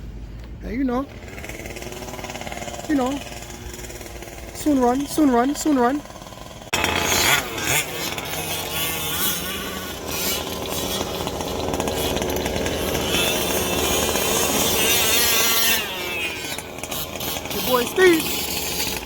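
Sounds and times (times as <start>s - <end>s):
small two-stroke engine buzzing: 0.7s - 19.0s.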